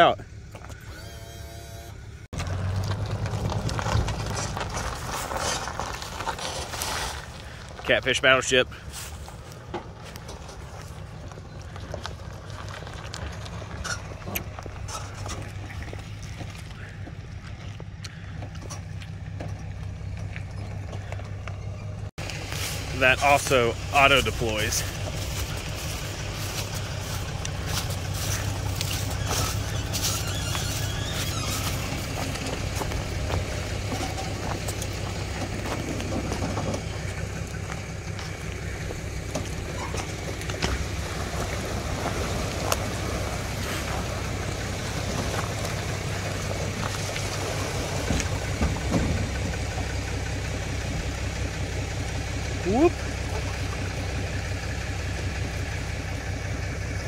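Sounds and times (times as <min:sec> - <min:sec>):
truck engine running low: 0:00.0 - 0:57.0.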